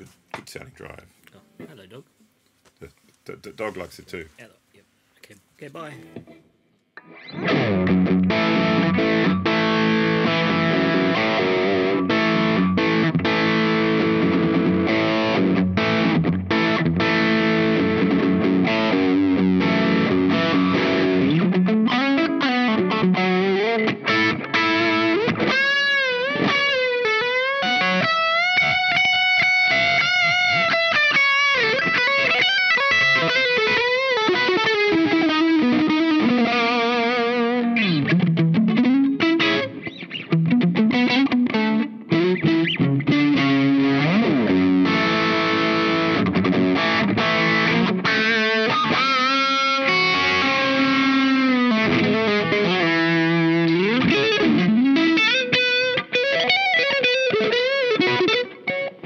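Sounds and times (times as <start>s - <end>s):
overdriven electric guitar: 6.0s - 59.0s.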